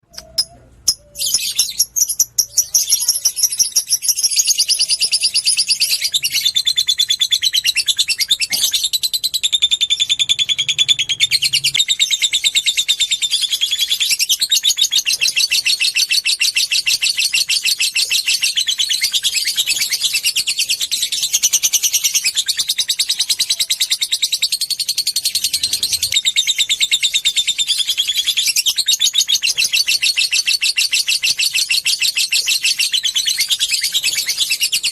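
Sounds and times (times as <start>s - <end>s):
bird chirps: 0.0s - 34.9s
lovebird chattering trill: 0.1s - 34.9s.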